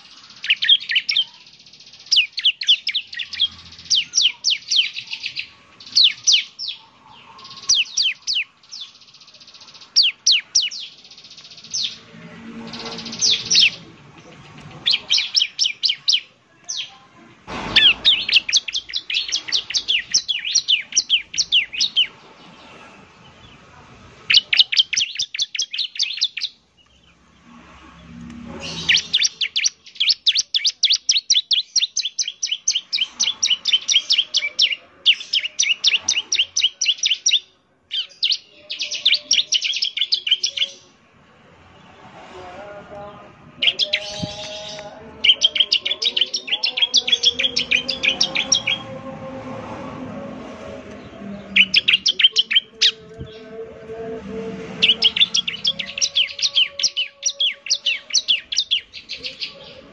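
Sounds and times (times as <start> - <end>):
bird singing sharp chirps: 0.0 - 16.9, 17.5 - 23.6, 24.2 - 37.4, 43.6 - 49.0, 50.8 - 53.5, 54.6 - 59.8.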